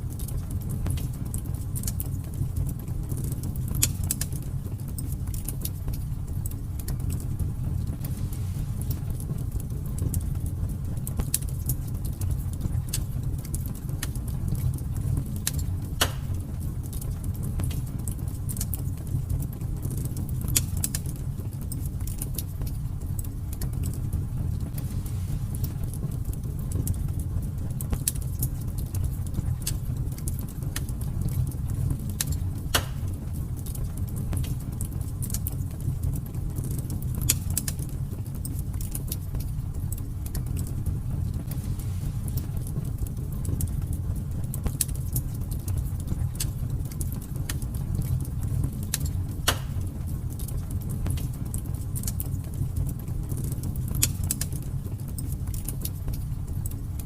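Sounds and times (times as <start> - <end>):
fire crackling in a fireplace: 0.0 - 57.0
sharp snaps of fire: 0.0 - 57.0.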